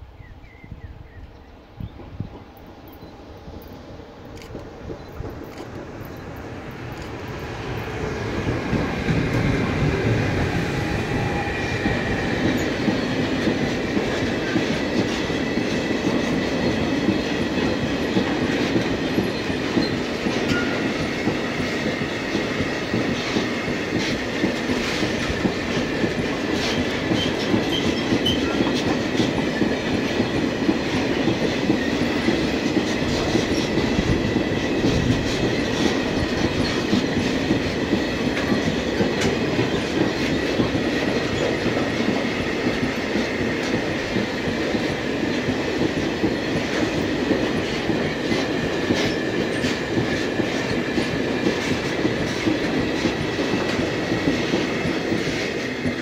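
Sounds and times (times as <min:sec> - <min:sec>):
freight train clattering past: 0:01.8 - 0:56.0.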